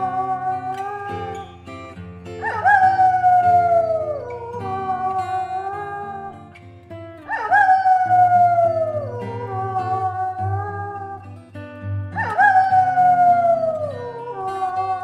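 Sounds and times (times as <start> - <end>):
wolf howling: 0.0 - 6.6, 7.2 - 11.4, 12.1 - 15.0.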